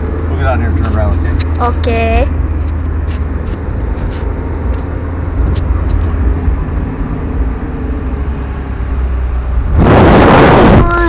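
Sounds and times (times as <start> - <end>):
car engine and road rumble: 0.0 - 11.0
wind buffeting microphone: 1.0 - 11.0.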